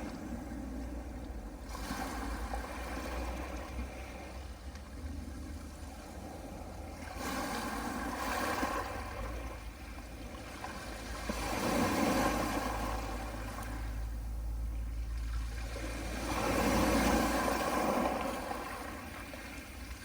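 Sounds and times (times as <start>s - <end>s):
waves washing onto pebbles: 0.0s - 4.5s, 5.4s - 13.9s, 15.2s - 20.0s
steady low rumble: 0.0s - 20.0s.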